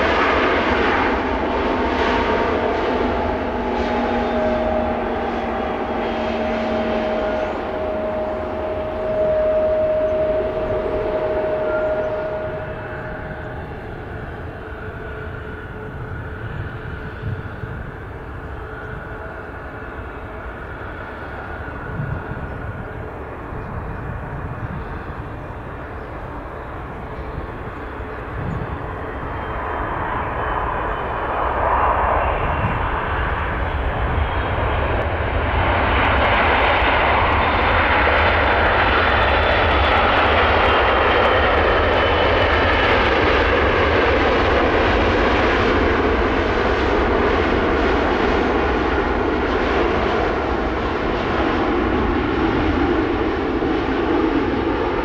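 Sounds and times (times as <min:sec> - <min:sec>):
jet engine whining tones: 0:00.0 - 0:55.0
jet engines rumble and hiss: 0:00.0 - 0:55.0.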